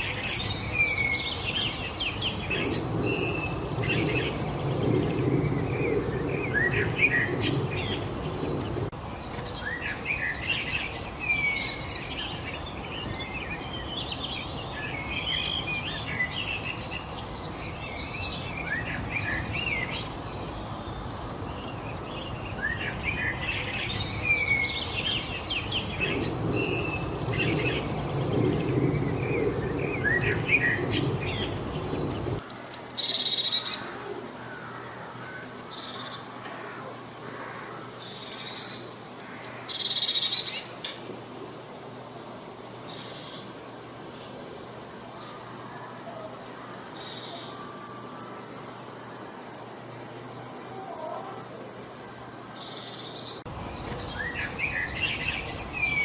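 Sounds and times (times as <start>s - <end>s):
loud bird calls: 0.0s - 40.9s, 41.9s - 56.0s
birds singing and chirping: 0.0s - 56.0s.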